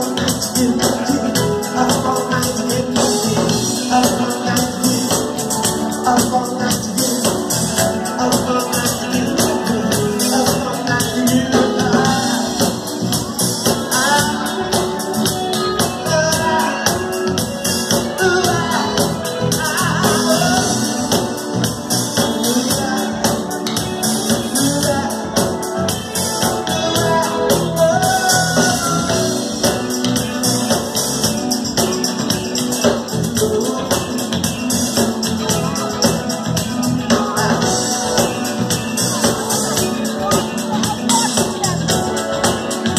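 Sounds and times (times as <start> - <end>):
live band playing: 0.0 - 42.9
person singing: 0.0 - 42.9
steady percussion: 0.0 - 42.9.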